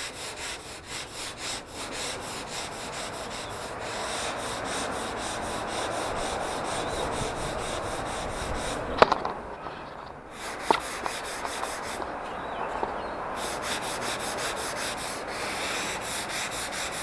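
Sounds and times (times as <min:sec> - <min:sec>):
sanding pad rubbing plaster: 0:00.0 - 0:09.0, 0:10.3 - 0:12.1, 0:13.4 - 0:17.0.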